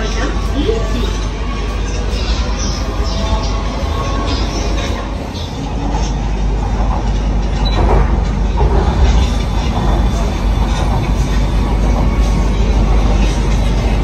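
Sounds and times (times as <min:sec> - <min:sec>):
rattling noise: 0:00.0 - 0:14.0
train wheels rumbling: 0:00.0 - 0:14.0.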